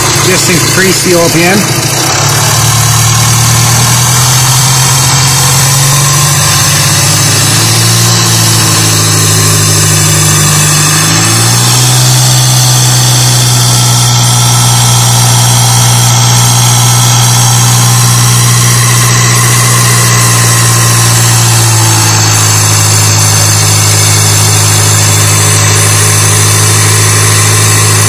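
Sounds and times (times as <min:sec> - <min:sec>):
diesel engine running at raised revs: 0:00.0 - 0:28.0.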